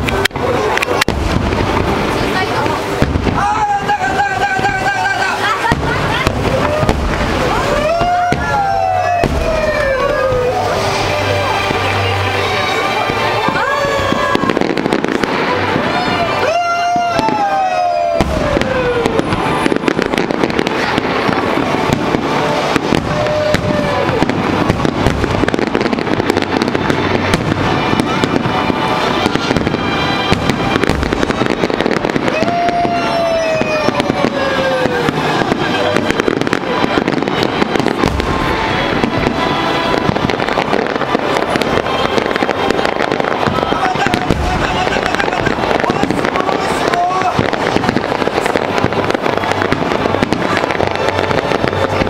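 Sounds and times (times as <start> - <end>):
fireworks crackling and popping: 0.0 - 52.0.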